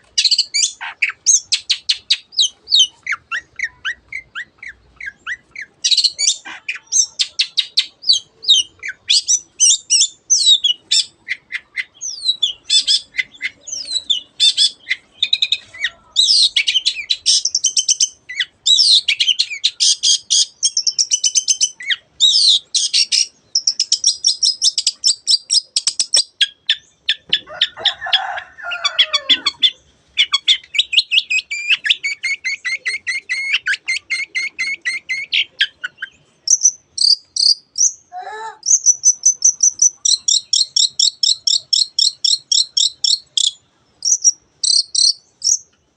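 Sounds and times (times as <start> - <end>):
shrike singing rapid trills: 0.2 - 27.4, 28.1 - 38.0, 38.6 - 45.7.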